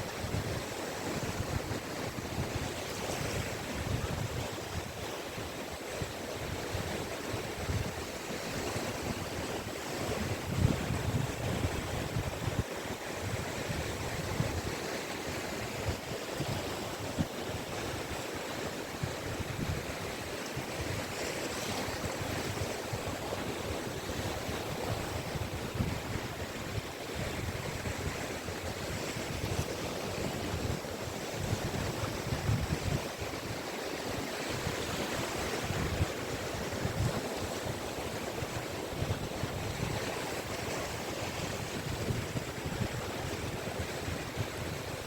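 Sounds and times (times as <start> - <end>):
waves washing onto beach: 0.0 - 45.0
wind buffeting microphone: 5.9 - 45.0.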